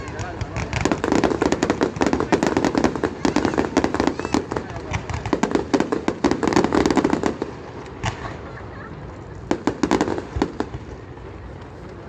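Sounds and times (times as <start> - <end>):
fireworks popping: 0.0 - 12.0.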